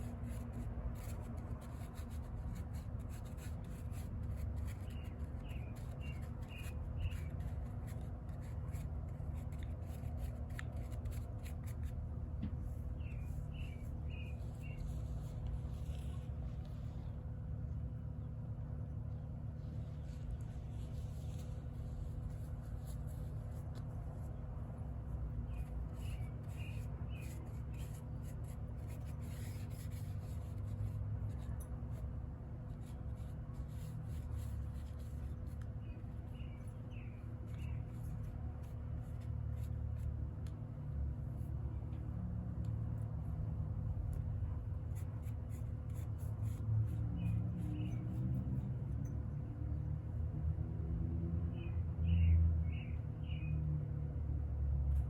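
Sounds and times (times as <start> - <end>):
light scratching and rubbing: 0.0 - 18.3, 19.0 - 49.5
steady low hum: 0.0 - 51.4.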